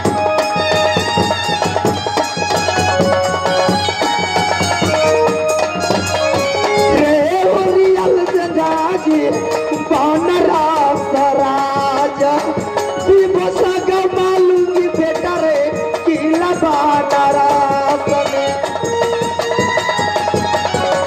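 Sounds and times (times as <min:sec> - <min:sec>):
drums: 0:00.0 - 0:21.0
live folk band music: 0:00.0 - 0:21.0
ornamented melody: 0:00.0 - 0:21.0
rattling percussion: 0:00.0 - 0:21.0.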